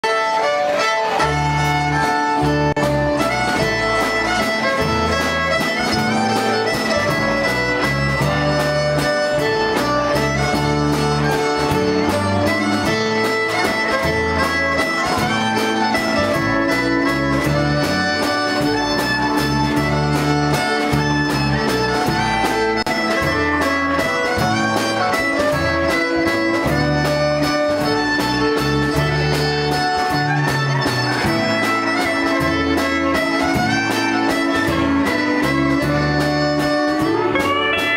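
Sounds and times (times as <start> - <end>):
country band playing: 0.0 - 37.9
fiddle melody: 0.0 - 37.9.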